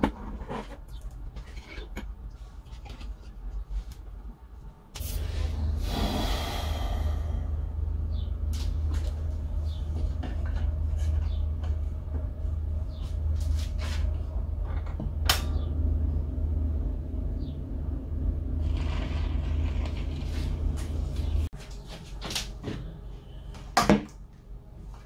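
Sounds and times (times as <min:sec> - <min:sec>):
radiogram low hum: 0:03.5 - 0:25.0.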